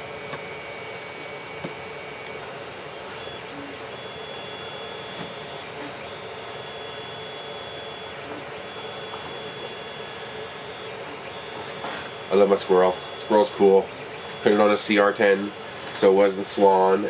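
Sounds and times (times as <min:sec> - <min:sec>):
high motor whine: 0:00.0 - 0:17.0
printer fan hum: 0:00.0 - 0:17.0.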